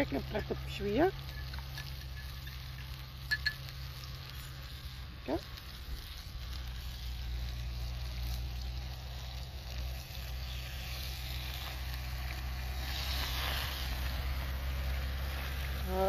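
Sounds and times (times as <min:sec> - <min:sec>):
burner flame rumble: 0:00.0 - 0:16.0
liquid hissing and sizzling: 0:00.0 - 0:16.0.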